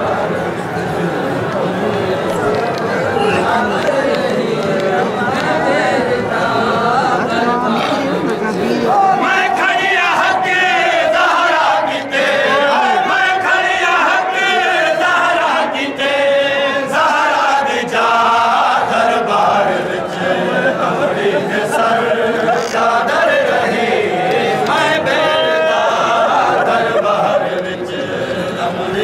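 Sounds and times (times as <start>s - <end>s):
male crowd chanting: 0.0s - 29.0s.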